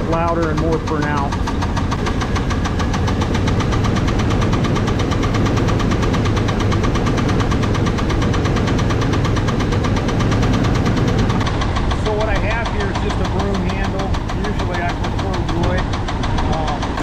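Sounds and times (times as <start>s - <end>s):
engine running with rod knock: 0.0s - 17.0s.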